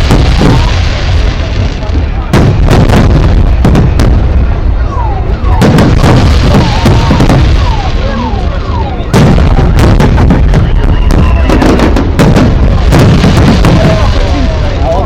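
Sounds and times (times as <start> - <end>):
fireworks bangs and bursts: 0.0 - 15.0.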